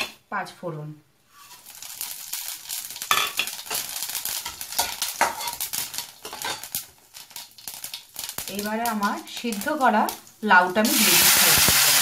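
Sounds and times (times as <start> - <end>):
seeds sizzling in hot oil: 1.2 - 12.0.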